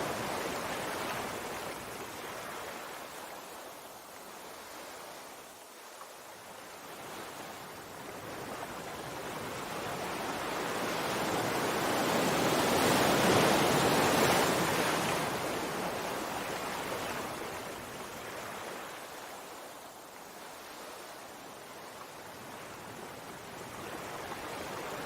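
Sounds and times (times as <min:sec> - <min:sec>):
sea waves surging: 0:00.0 - 0:25.0.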